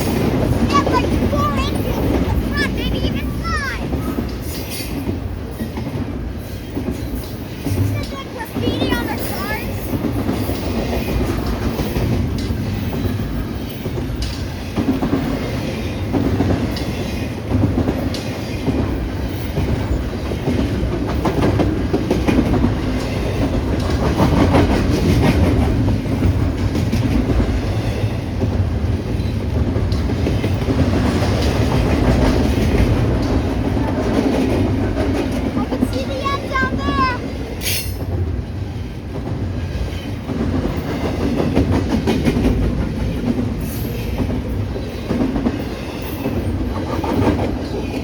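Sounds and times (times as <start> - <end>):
wheels clicking over rail joints: 0.0 - 38.3, 39.1 - 48.0.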